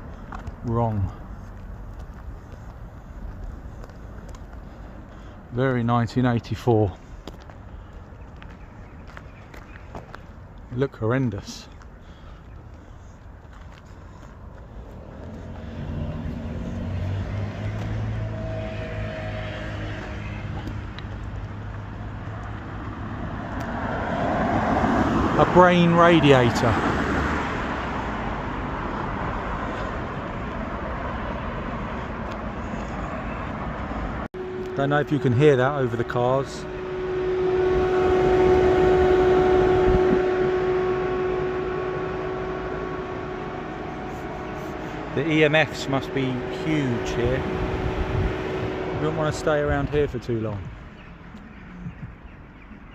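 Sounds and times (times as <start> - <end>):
passing road traffic: 0.0 - 52.9
vehicle engine running: 6.4 - 52.0.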